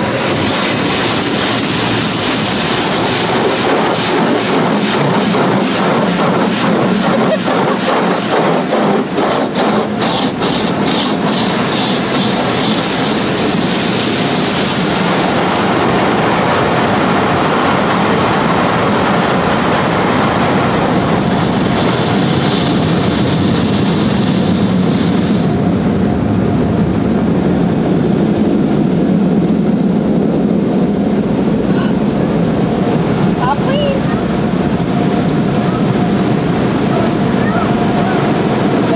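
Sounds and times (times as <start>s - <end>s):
car wash water spray rushing: 0.0s - 25.7s, 31.5s - 38.9s.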